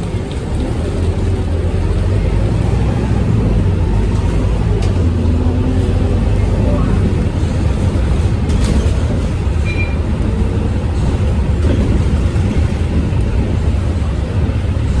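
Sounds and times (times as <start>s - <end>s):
bus diesel engine rumble: 0.0s - 15.0s
road noise: 0.0s - 15.0s.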